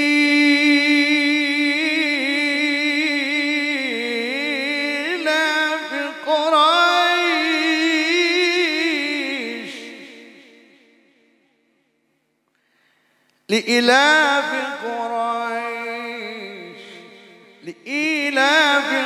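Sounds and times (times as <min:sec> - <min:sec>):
man chanting recitation: 0:00.0 - 0:10.7, 0:13.5 - 0:19.0.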